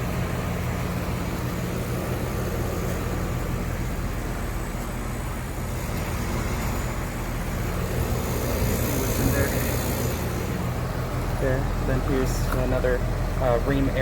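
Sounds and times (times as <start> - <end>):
condenser fans whooshing: 0.0 - 14.0
low compressor hum: 0.0 - 14.0.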